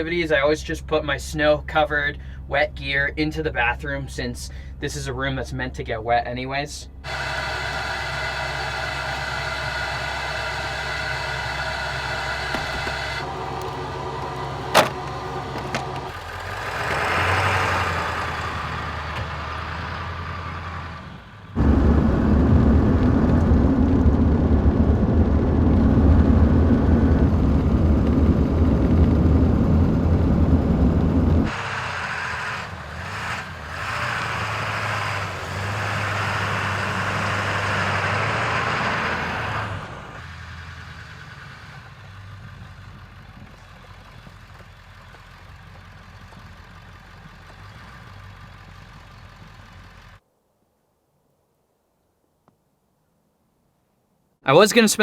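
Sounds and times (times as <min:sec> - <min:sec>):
diesel pickup truck engine: 0:00.0 - 0:06.2, 0:06.8 - 0:50.2.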